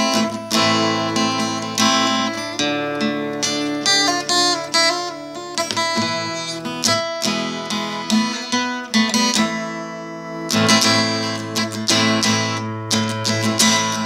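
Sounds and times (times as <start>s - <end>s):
acoustic guitar picking: 0.0s - 14.0s.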